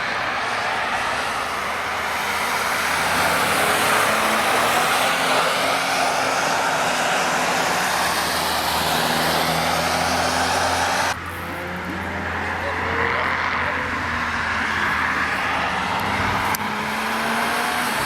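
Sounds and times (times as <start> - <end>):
car engine: 0.0 - 18.0.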